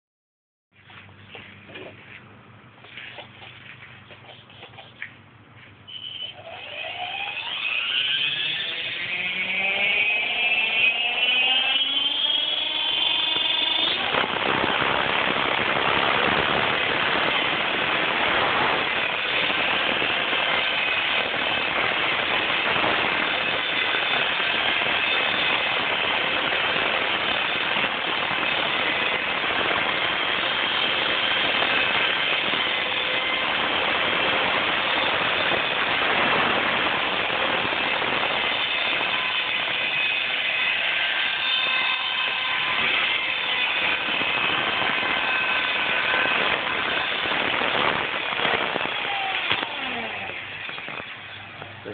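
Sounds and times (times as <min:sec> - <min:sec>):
model helicopter motor whine: 0:05.9 - 0:51.9
rotor blades whirring: 0:05.9 - 0:51.9.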